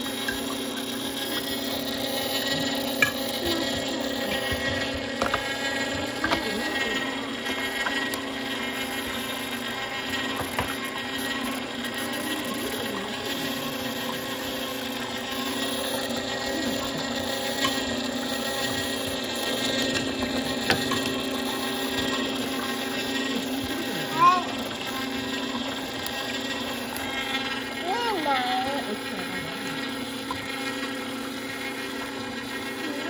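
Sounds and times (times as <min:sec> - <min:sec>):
juicer motor and gear hum: 0:00.0 - 0:33.0.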